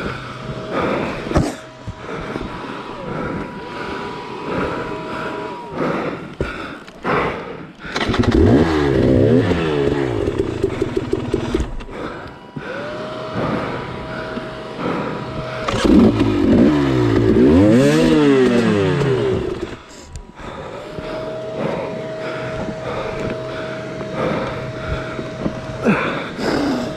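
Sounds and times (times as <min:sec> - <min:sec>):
dirt bike engine revving: 0:00.0 - 0:07.2, 0:07.8 - 0:26.9.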